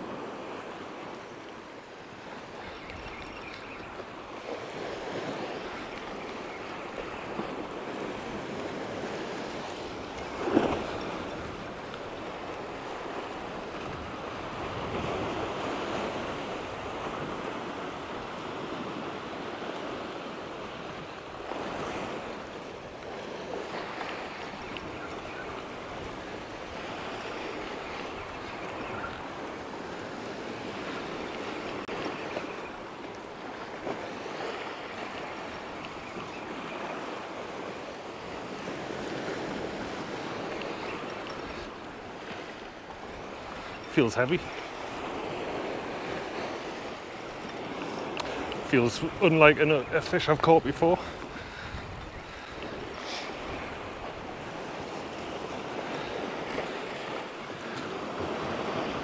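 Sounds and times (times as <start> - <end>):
sea waves breaking over rocks: 0.0 - 59.0.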